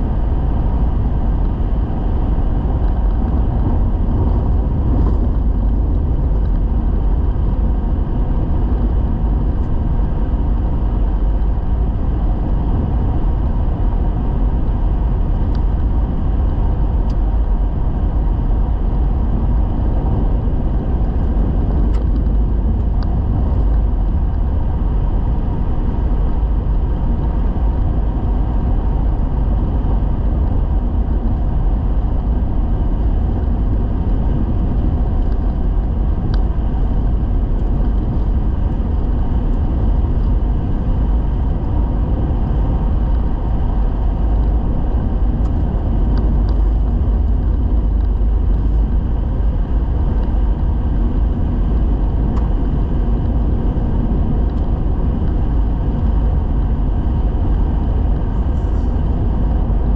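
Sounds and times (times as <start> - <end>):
vehicle driving on gravel: 0.0 - 59.9.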